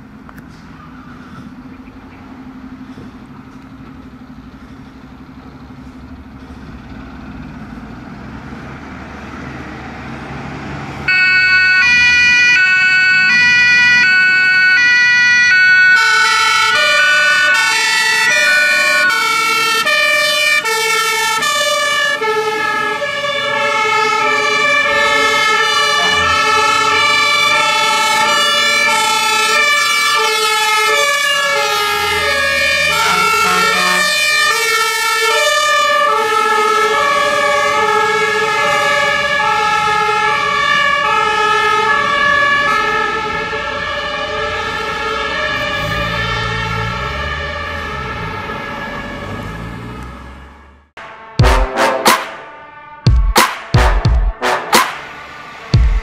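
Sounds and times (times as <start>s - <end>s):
fire engine diesel engines: 0.0s - 53.1s, 53.8s - 56.0s
two-tone emergency sirens: 8.4s - 56.0s.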